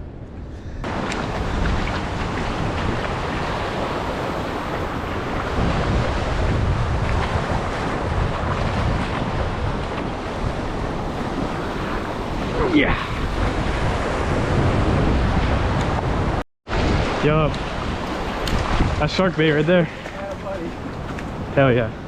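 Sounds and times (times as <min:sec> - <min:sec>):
wind buffeting microphone: 0:00.0 - 0:22.0
waves washing: 0:00.2 - 0:22.0.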